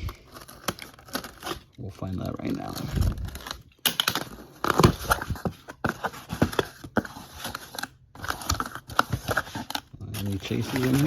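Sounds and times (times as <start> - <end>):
packing rustling: 0.0 - 11.0.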